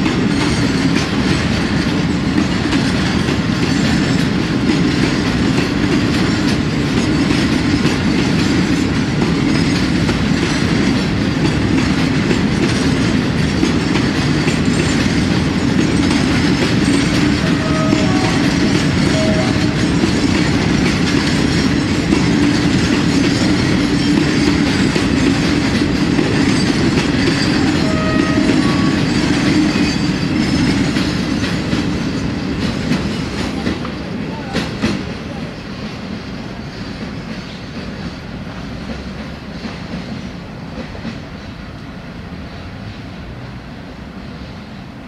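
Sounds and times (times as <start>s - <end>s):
train wheels clattering on rails: 0.0s - 45.0s.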